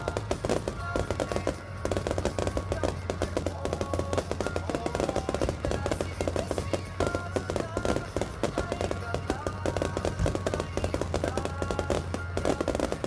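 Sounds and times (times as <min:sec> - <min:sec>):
fireworks bangs and crackle: 0:00.0 - 0:13.0
music playing: 0:00.0 - 0:13.0.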